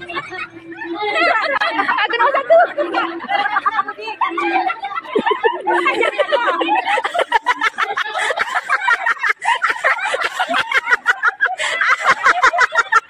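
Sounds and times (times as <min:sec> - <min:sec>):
crowd laughing and chattering: 0:00.0 - 0:13.0.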